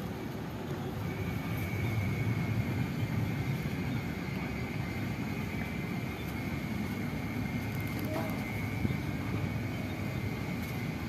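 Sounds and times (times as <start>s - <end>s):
faint high whine: 0.0s - 11.0s
low outdoor rumble: 0.0s - 11.0s.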